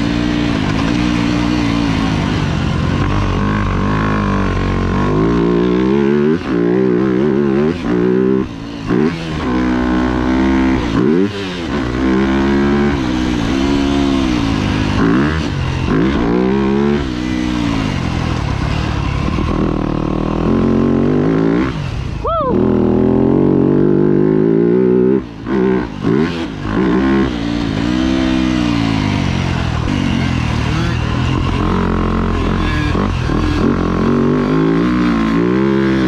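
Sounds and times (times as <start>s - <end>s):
motocross engine revving: 0.0s - 36.0s.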